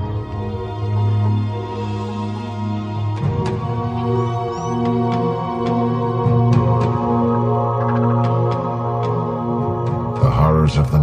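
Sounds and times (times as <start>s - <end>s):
sustained background score chords: 0.0s - 11.0s.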